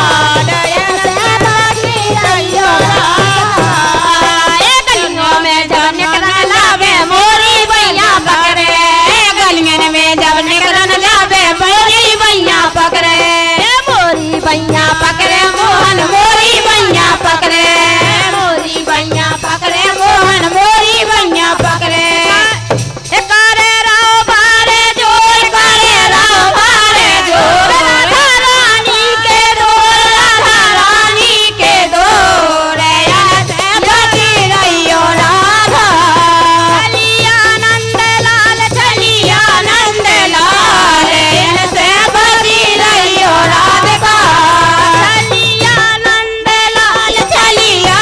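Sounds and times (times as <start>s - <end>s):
steady percussion beat: 0.0s - 48.0s
women singing folk song: 0.0s - 48.0s.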